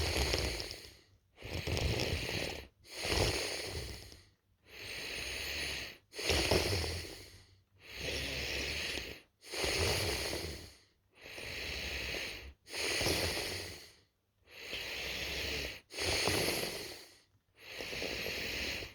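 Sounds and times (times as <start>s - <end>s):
person snoring: 0.0s - 4.2s, 4.8s - 13.9s, 14.6s - 18.9s.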